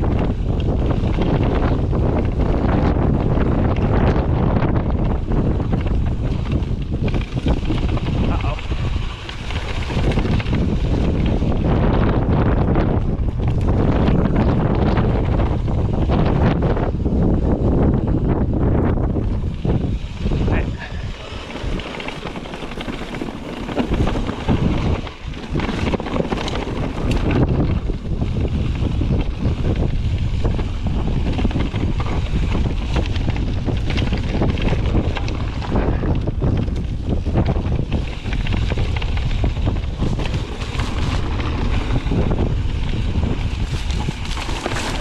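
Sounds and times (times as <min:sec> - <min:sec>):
mountain bike rumbling and clattering: 0:00.0 - 0:45.0
wind buffeting microphone: 0:00.0 - 0:45.0.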